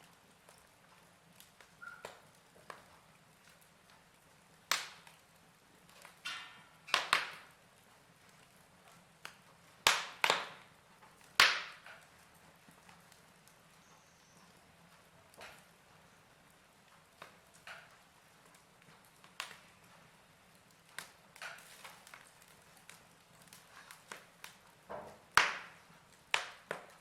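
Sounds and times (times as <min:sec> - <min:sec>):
faint steady background noise: 0:00.0 - 0:27.0
fire crackling and popping: 0:00.0 - 0:27.0.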